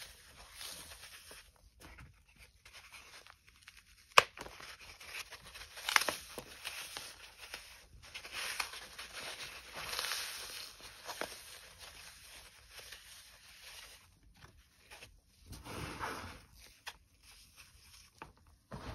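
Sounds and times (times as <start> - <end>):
foam sticks crunching and crumbling: 0.0 - 15.2.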